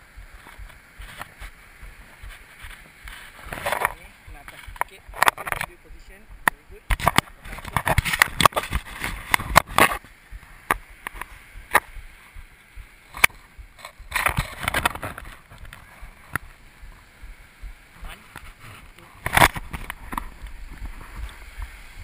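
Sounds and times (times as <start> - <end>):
knocks and crackles: 0.0 - 22.0
water splashing and sloshing: 0.0 - 22.0.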